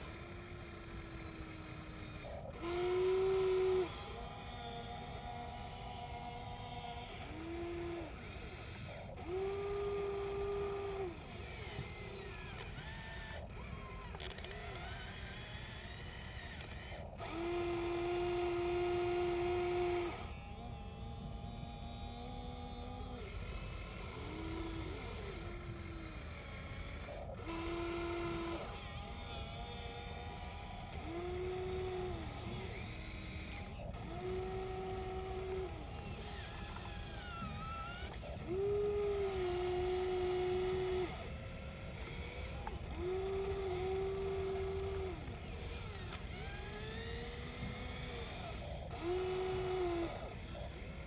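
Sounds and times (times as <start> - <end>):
electric motors whining: 0.0 - 51.0.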